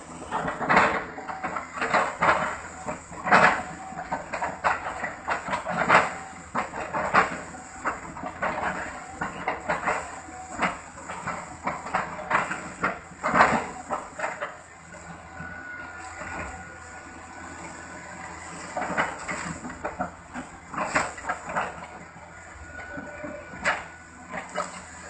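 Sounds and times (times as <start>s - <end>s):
excavator bucket splitting wood: 0.0s - 25.0s
excavator engine hum: 0.0s - 25.0s.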